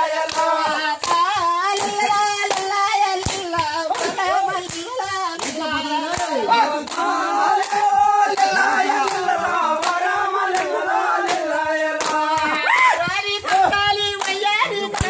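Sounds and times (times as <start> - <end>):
hand claps: 0.0 - 15.0
voices singing held notes: 0.0 - 15.0.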